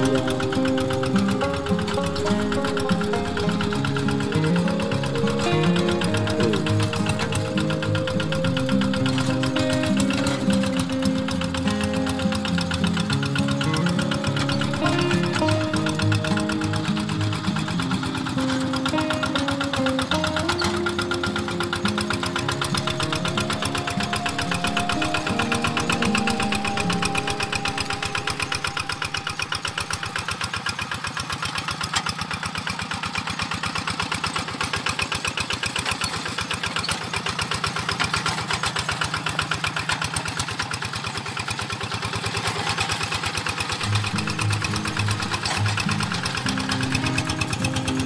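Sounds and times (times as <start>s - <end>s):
diesel engine knocking: 0.0s - 48.0s.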